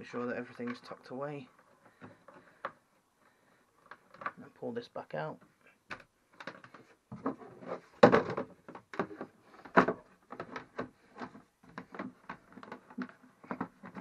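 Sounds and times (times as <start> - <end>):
plastic cover knocking and scraping: 0.0 - 2.9, 3.8 - 4.4, 5.4 - 14.0.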